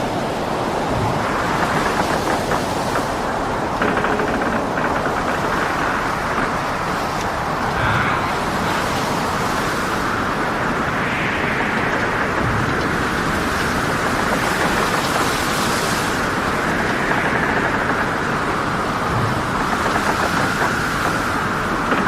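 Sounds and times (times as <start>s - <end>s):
waves: 0.0s - 22.0s
wind: 0.0s - 22.0s.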